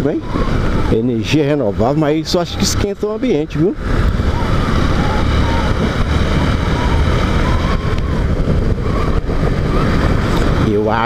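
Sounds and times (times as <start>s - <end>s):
motorcycle engine cruising: 0.0s - 11.0s
wind over microphone: 0.0s - 11.0s.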